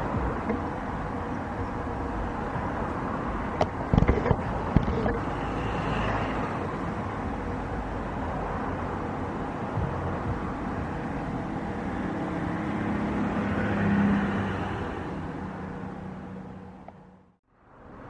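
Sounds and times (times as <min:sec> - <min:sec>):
engine noise: 0:00.0 - 0:17.4.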